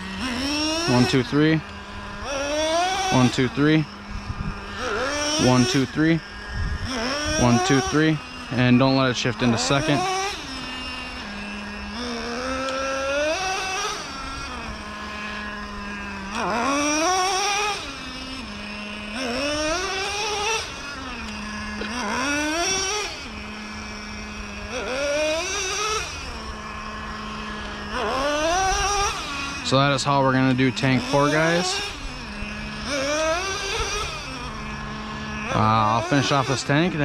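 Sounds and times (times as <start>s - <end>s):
engine full-throttle bursts: 0.0s - 37.0s
model truck engine idling: 0.0s - 37.0s.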